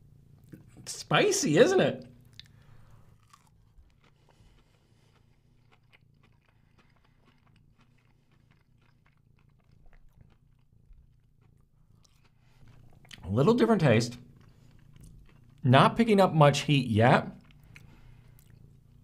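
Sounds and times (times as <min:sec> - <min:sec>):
low room hum: 0:00.0 - 0:19.0
chewing and crunching: 0:02.2 - 0:16.0, 0:17.3 - 0:19.0.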